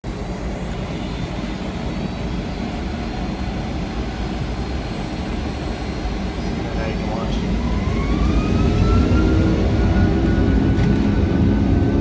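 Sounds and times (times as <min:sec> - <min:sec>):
airplane engine rumble: 0:00.0 - 0:12.0.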